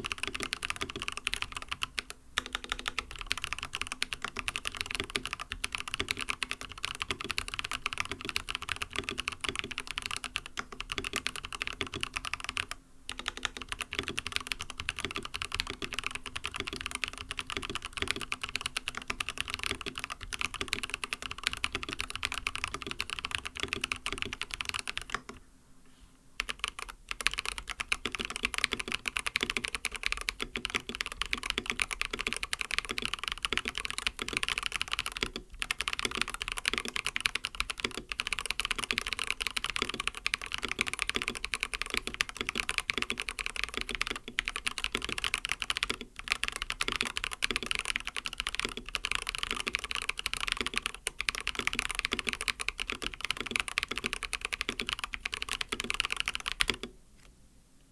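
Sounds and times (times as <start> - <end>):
fast keyboard typing: 0.0 - 25.4, 26.4 - 56.9.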